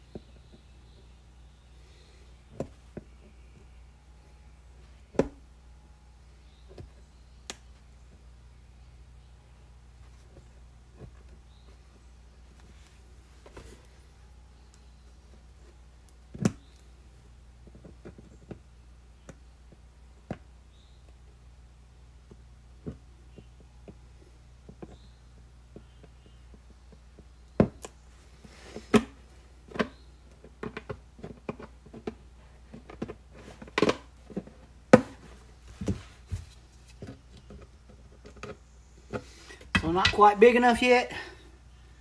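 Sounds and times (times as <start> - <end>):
faint low hum: 0.0 - 42.0.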